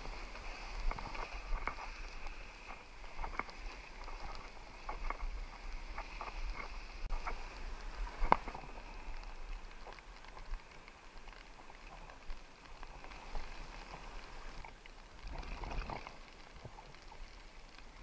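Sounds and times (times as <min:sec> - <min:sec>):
knocks and splashes in surf: 0:00.0 - 0:18.0.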